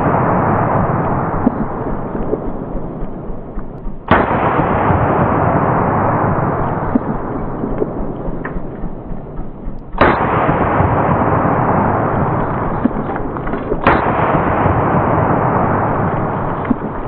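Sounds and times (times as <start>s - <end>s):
rifle shots with echo: 0.0s - 17.0s.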